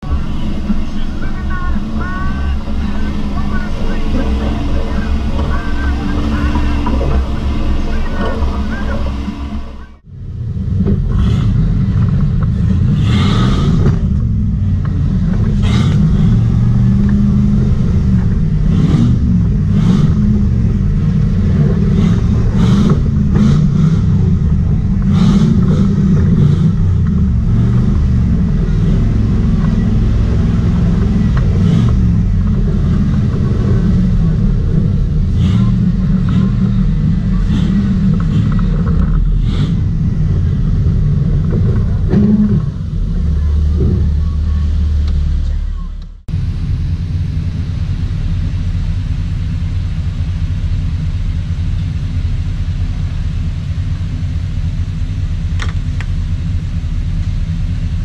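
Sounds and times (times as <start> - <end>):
engine low rumble: 0.0 - 58.0.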